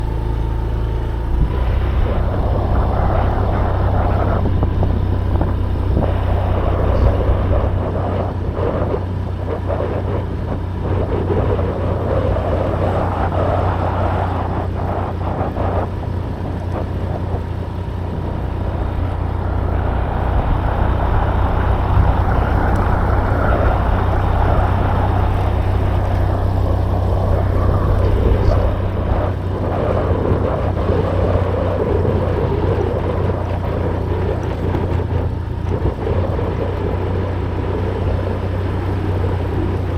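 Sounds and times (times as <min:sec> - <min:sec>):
low vehicle rumble: 0:00.0 - 0:39.9
wind buffeting microphone: 0:00.0 - 0:39.9.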